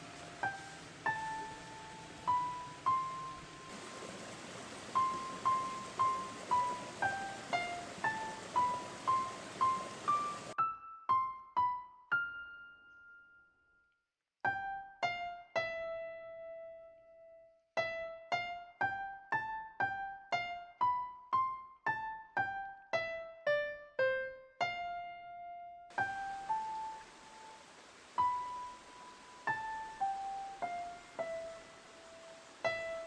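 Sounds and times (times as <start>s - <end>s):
slow solo piano melody: 0.0s - 3.9s, 4.9s - 13.8s, 14.4s - 27.6s, 28.2s - 33.0s.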